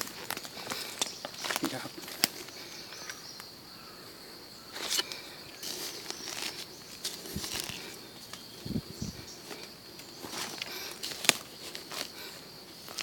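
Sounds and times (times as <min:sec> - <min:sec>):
rustling through undergrowth: 0:00.0 - 0:03.3, 0:04.1 - 0:13.0
insects buzzing: 0:00.0 - 0:13.0.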